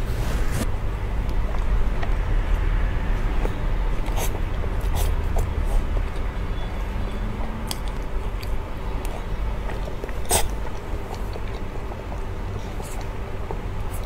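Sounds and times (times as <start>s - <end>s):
steady low hum: 0.0s - 14.0s
person chewing wet food: 1.2s - 14.0s.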